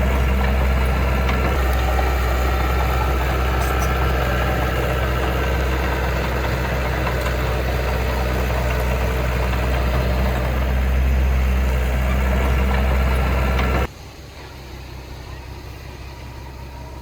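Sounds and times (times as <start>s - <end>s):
heavy diesel engine droning: 0.0s - 17.0s.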